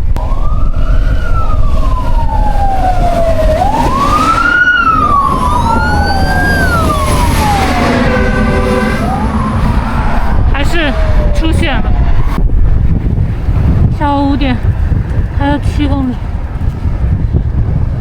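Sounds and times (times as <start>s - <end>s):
howling wind whistle: 0.0s - 18.0s
wind buffeting microphone: 0.0s - 18.0s.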